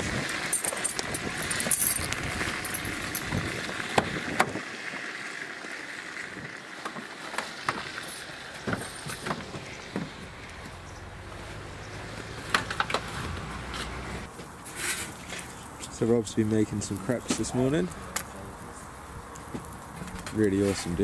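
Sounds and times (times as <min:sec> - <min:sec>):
outdoor hiss: 0:00.0 - 0:11.4, 0:12.0 - 0:21.0.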